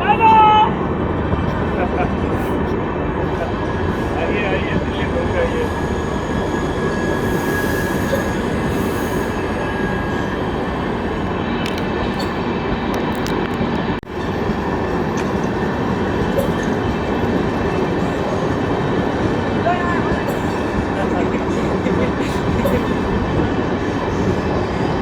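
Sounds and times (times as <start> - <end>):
train coaches rumbling on rails: 0.0 - 25.0.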